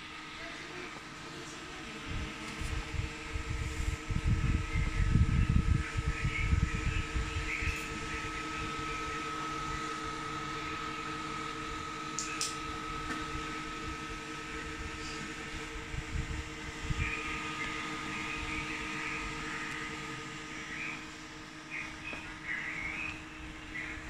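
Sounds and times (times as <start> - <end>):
cooling fans whirring: 0.0 - 24.0.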